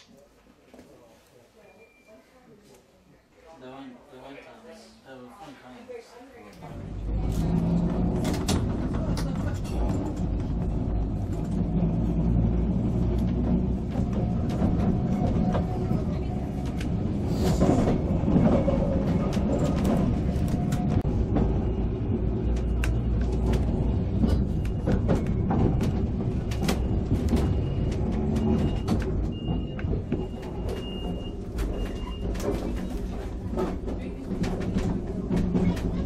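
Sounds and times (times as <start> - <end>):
tram rumbling on rails: 6.6 - 36.0.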